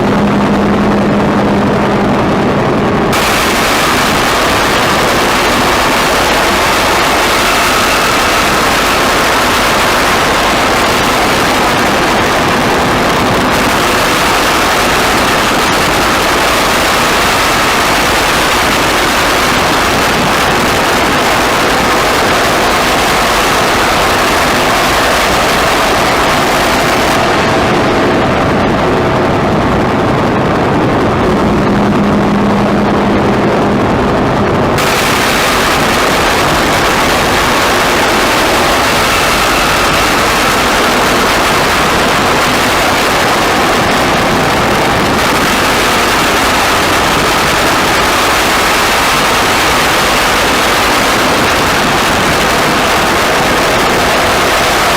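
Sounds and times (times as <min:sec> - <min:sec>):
faint steady tones: 0:00.0 - 0:54.9
low hum: 0:00.0 - 0:54.9
wall of electronic noise: 0:00.0 - 0:54.9.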